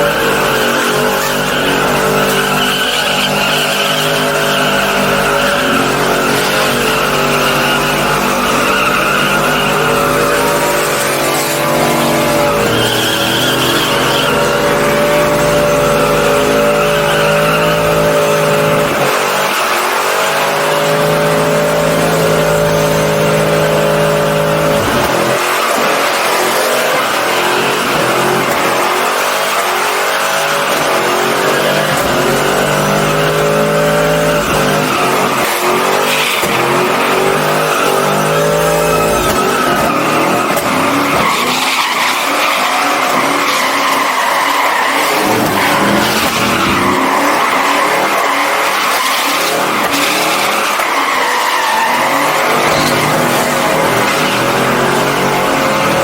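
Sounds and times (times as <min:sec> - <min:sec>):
tires screeching: 0:00.0 - 0:56.0
truck engine revving: 0:00.0 - 0:56.0.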